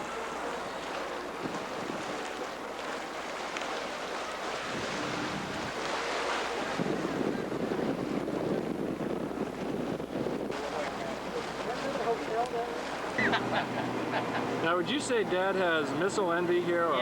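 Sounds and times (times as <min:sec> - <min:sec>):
wind buffeting microphone: 0:00.0 - 0:15.3
water washing: 0:00.0 - 0:17.0.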